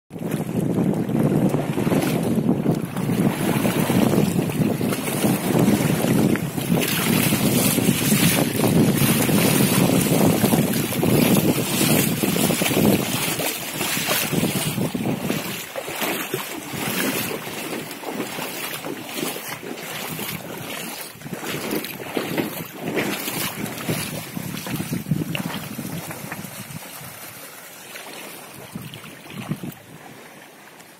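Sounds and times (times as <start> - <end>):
wind buffeting microphone: 0.1 - 27.4, 28.5 - 30.2
floodwater rushing: 0.1 - 30.9.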